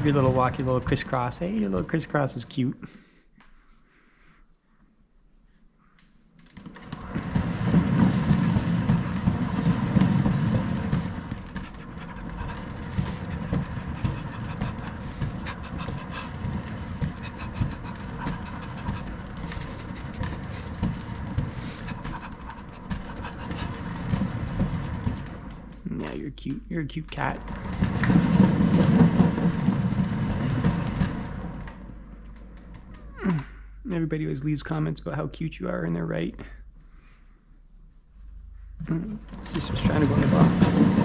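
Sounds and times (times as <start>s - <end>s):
cat exercise wheel rumbling: 0.0s - 3.0s, 6.4s - 37.1s, 38.2s - 41.0s.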